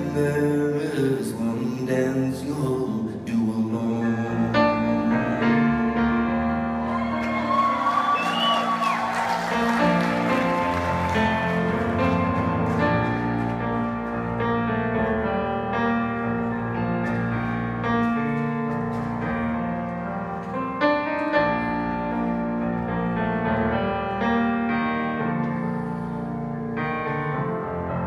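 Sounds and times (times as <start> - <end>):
solo piano playing: 4.1 - 28.0.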